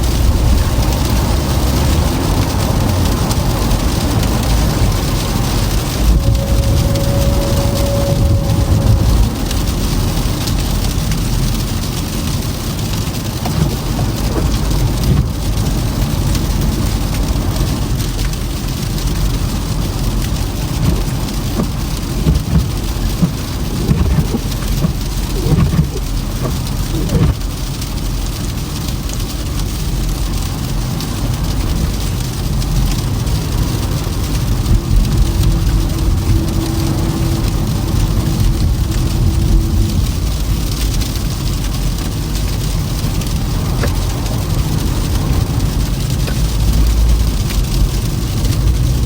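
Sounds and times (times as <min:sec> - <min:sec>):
low rumble: 0:00.0 - 0:29.1, 0:29.7 - 0:49.0
small crackles: 0:00.0 - 0:49.0
tyres hissing on slushy road: 0:00.0 - 0:49.0.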